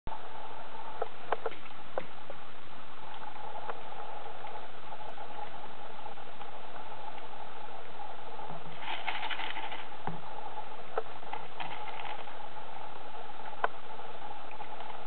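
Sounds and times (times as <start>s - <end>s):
steady hiss: 0.1s - 15.0s.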